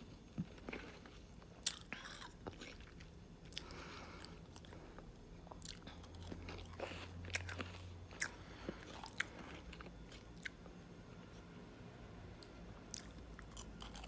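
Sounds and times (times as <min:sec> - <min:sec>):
ice crunching while chewed: 0:00.0 - 0:10.7, 0:12.9 - 0:14.0.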